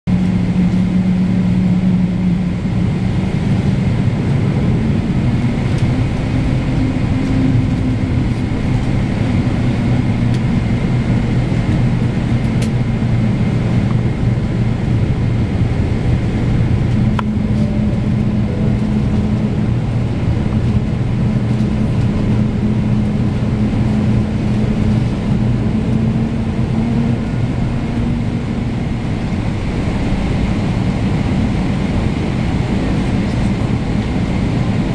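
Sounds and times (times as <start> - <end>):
jet engines rumbling: 0.1 - 34.9.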